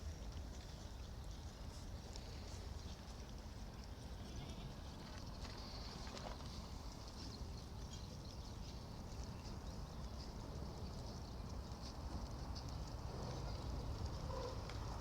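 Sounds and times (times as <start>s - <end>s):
faint hoof clicks: 0.0s - 15.0s.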